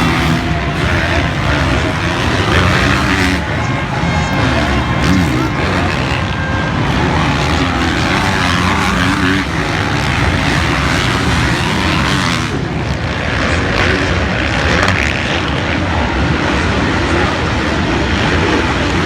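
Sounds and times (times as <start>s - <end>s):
motocross bike engines: 0.0s - 19.0s.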